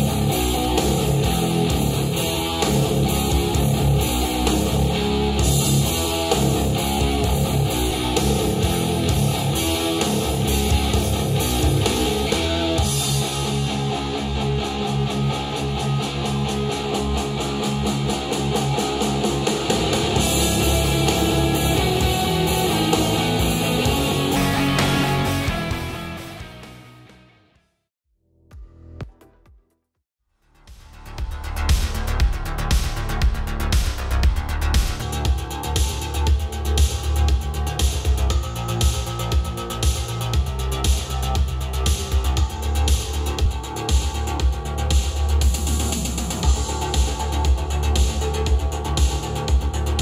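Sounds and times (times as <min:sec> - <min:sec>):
rock music through speakers: 0:00.0 - 0:27.5, 0:31.0 - 0:50.0.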